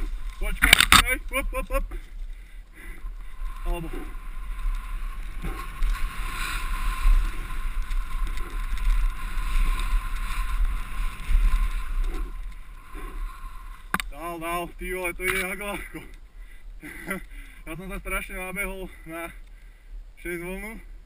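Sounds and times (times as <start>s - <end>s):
bike tyres rattling on dirt trail: 0.0s - 19.0s
bike jolts: 0.0s - 19.8s.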